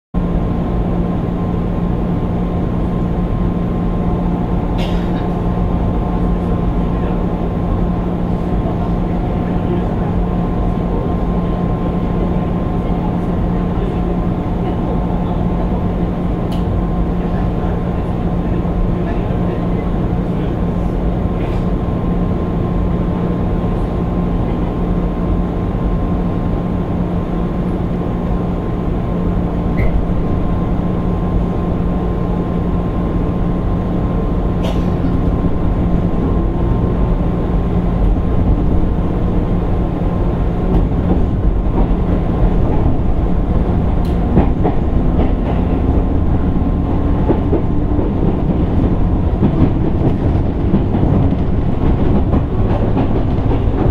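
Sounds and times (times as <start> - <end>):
train rumble and hum: 0.2 - 53.9.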